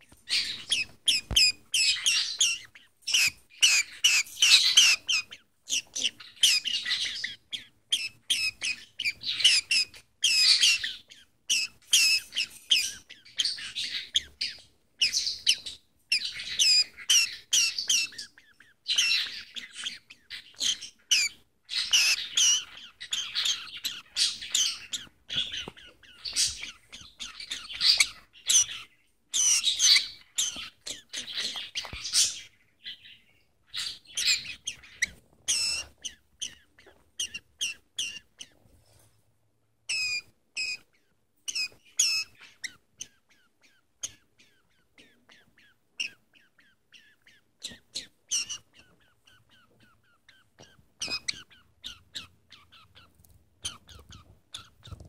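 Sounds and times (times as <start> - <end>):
budgie chattering: 0.3 - 32.5, 33.7 - 38.6, 39.9 - 55.0.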